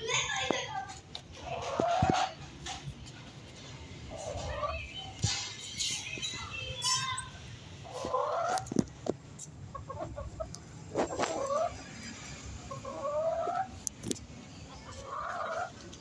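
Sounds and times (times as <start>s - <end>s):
chicken clucking: 0.1s - 16.0s.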